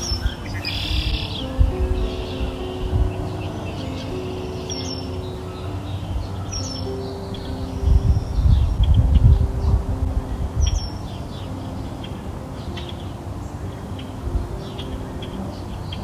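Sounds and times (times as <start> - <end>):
birds chirping: 0.0 - 16.0
soft held low tones: 0.0 - 16.0.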